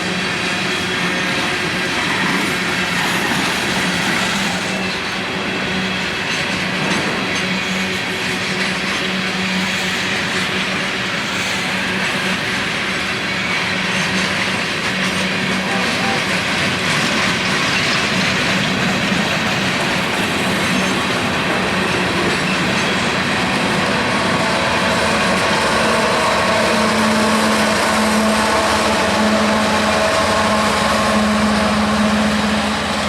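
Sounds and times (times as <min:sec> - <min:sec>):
freight train wheels on rails: 0:00.0 - 0:33.0.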